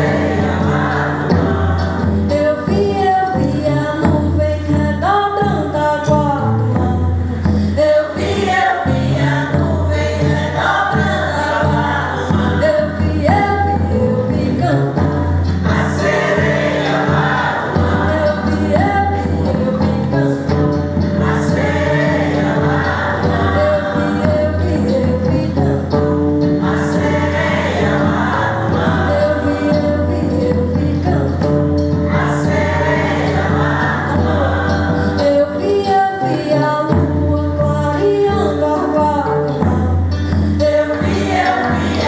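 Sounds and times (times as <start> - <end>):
women's choir singing: 0.0 - 3.9, 7.8 - 36.8, 40.6 - 42.0
acoustic guitar: 0.0 - 42.0
lead voice singing: 0.0 - 42.0.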